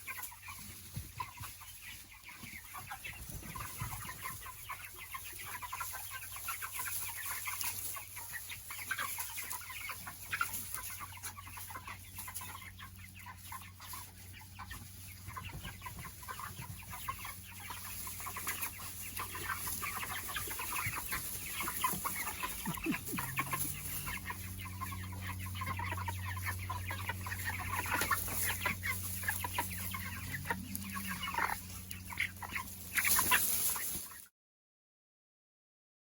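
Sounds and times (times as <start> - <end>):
chickens clucking and calling: 0.0 - 34.3.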